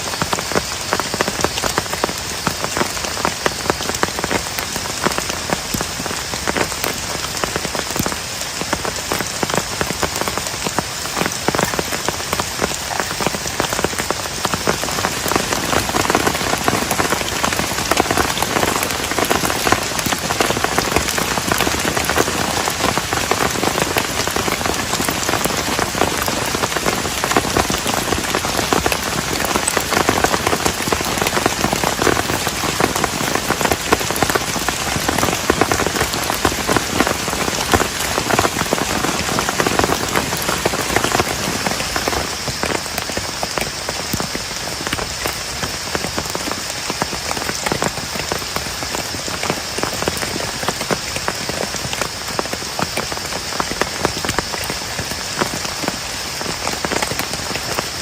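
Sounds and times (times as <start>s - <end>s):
heavy rain pattering: 0.0s - 58.0s.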